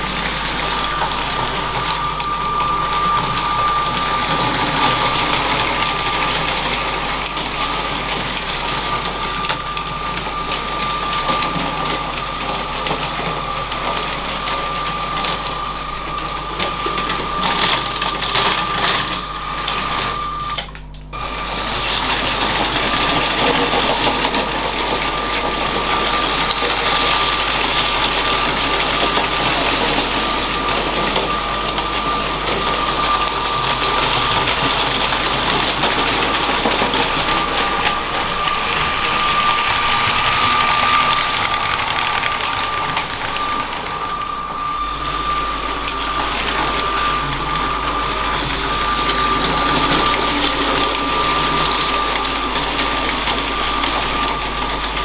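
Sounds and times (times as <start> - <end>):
small electric motor whine: 0.0 - 55.0
wheels rattling on plastic track: 0.0 - 55.0.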